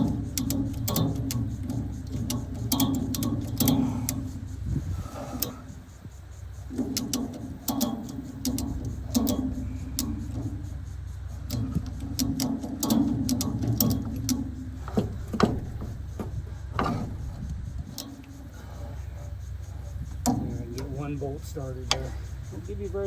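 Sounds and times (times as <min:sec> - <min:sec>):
ratchet strap pawl clicking: 0:00.0 - 0:21.0
ratchet handle grinding rasp: 0:00.0 - 0:21.2.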